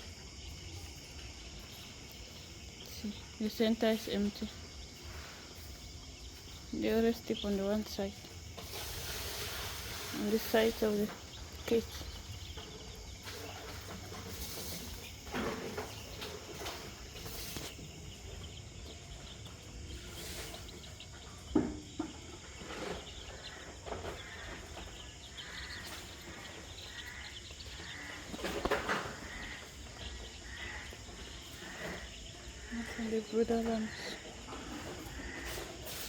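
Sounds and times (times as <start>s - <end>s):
chicks peeping: 0.4s - 36.0s.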